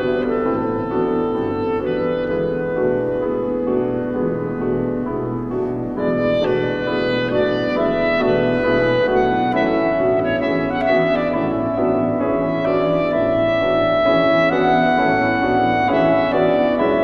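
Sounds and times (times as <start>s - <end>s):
clarinet melody: 0.0s - 17.0s
piano accompaniment: 0.0s - 17.0s.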